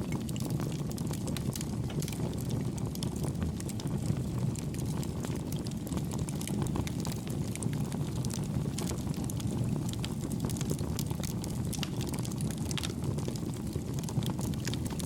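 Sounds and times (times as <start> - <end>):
campfire crackling and burning: 0.0 - 15.0.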